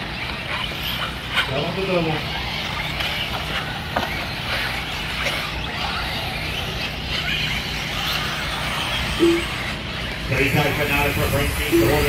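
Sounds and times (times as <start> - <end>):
rc car motors whining: 0.0 - 12.0
steady outdoor hiss: 0.0 - 12.0.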